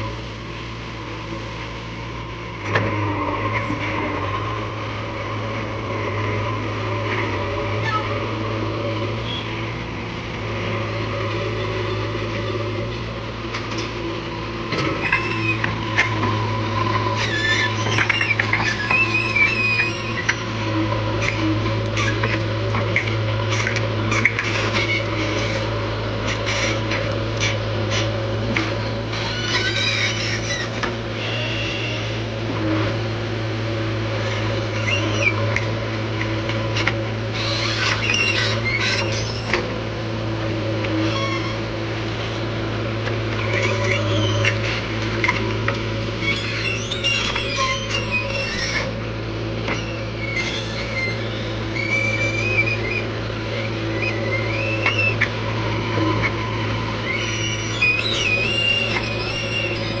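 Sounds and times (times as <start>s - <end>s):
diesel engine running: 0.0s - 60.0s
high wavering whine: 0.0s - 60.0s.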